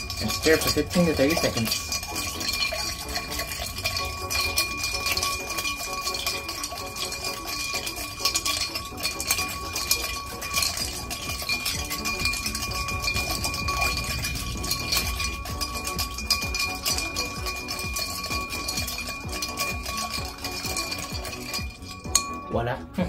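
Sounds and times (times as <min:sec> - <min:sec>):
spoon stirring ice in glass: 0:00.0 - 0:22.5.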